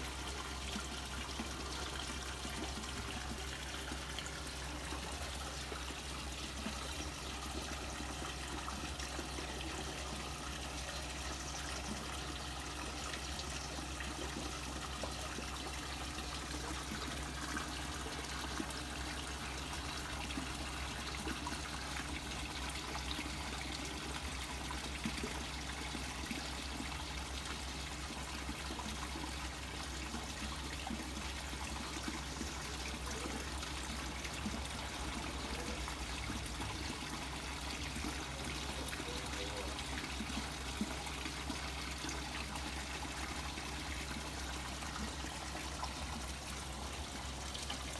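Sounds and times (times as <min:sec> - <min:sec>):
water trickling in pond: 0:00.0 - 0:47.9.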